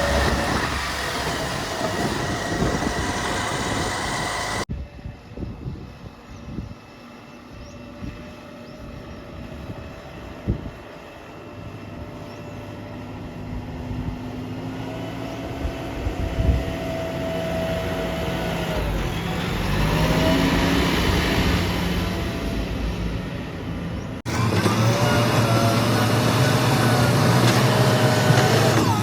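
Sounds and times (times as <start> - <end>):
heavy diesel engine running: 0.0 - 4.7, 9.8 - 29.0.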